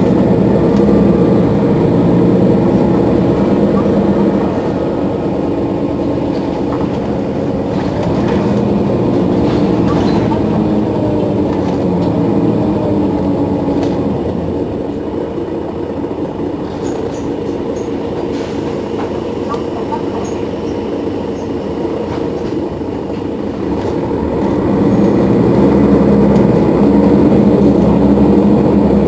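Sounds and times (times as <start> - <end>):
bus engine idling: 0.0 - 29.0.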